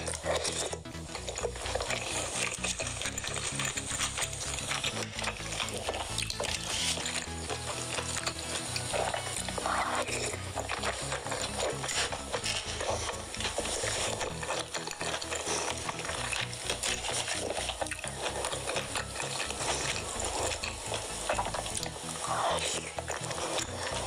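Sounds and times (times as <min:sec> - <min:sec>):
chewing and lip smacking: 0:00.0 - 0:24.0.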